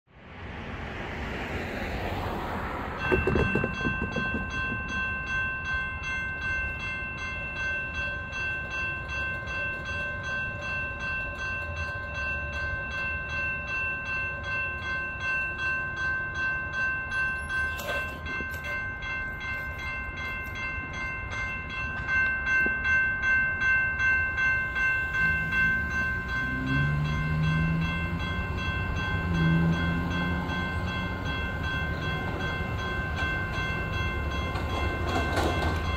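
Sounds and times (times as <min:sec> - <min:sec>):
approaching train rumble: 0:00.1 - 0:35.9
railroad crossing bell ringing: 0:01.0 - 0:35.9.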